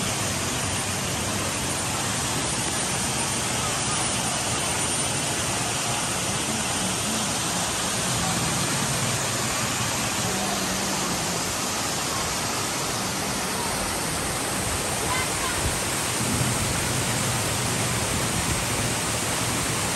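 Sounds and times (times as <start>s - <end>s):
waterfall rushing over rocks: 0.0s - 19.9s.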